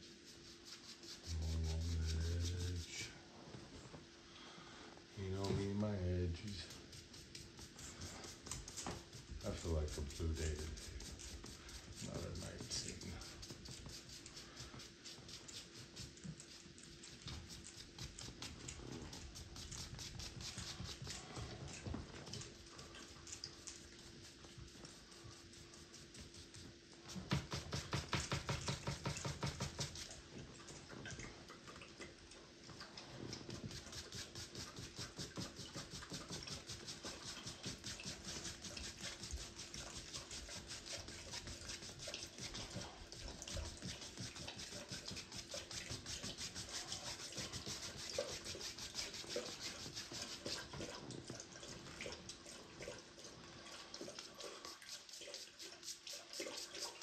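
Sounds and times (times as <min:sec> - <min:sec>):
paintbrush scrubbing canvas: 0:00.0 - 0:04.2, 0:05.0 - 0:31.0, 0:32.8 - 0:57.0.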